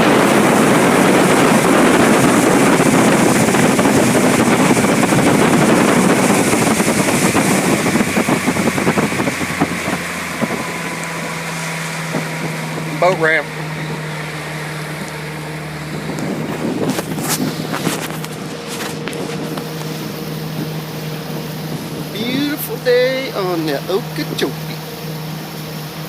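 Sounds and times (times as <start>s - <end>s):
boat motor running: 0.0s - 26.0s
water rushing: 0.0s - 26.0s
wind: 0.0s - 26.0s.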